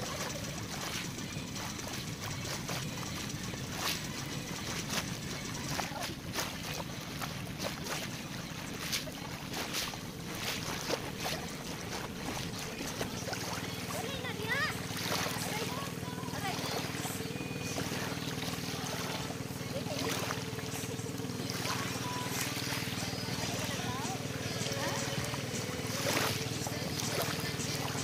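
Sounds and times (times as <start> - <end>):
small waves lapping: 0.0 - 28.0.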